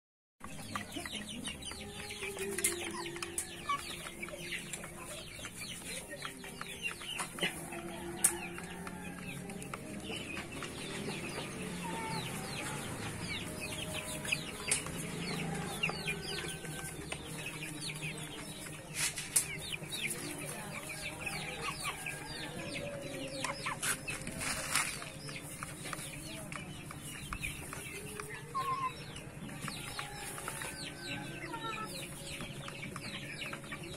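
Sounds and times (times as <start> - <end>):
chickens clucking: 0.4 - 33.9.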